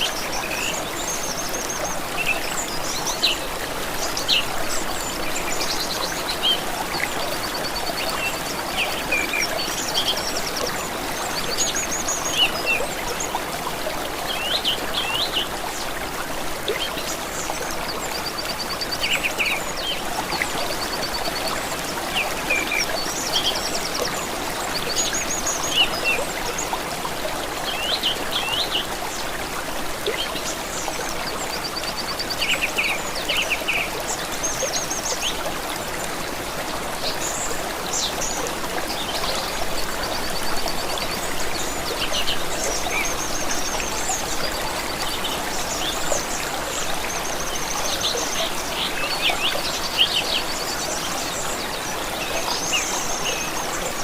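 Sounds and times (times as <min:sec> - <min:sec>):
songbirds calling and trilling: 0:00.0 - 0:54.0
stream running water: 0:00.0 - 0:54.0.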